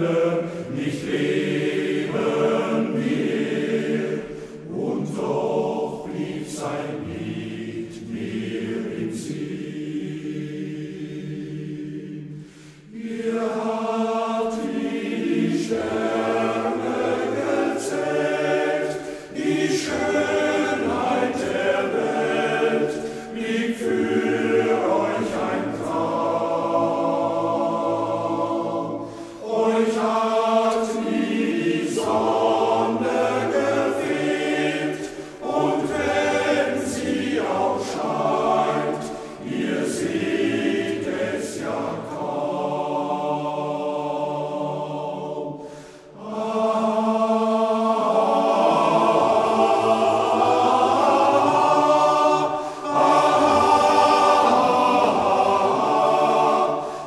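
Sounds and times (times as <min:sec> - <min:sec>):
men's choir singing: 0:00.0 - 0:57.0.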